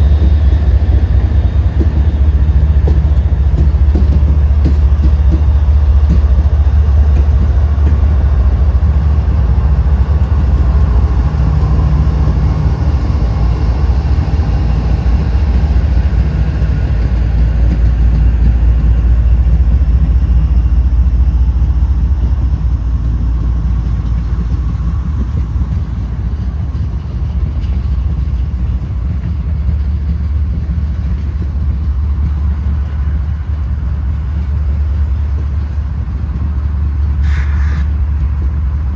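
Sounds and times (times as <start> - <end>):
diesel locomotive rumbling: 0.0 - 38.9.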